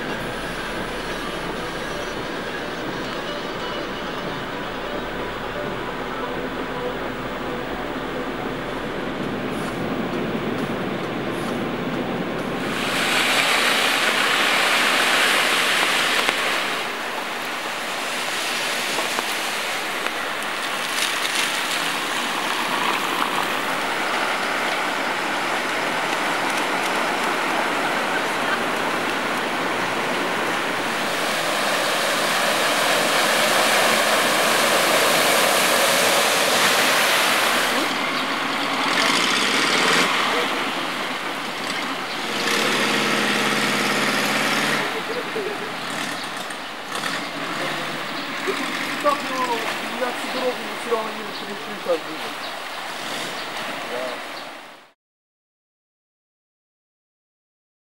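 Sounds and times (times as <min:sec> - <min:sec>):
floodwater rushing and splashing: 0:00.0 - 0:55.0.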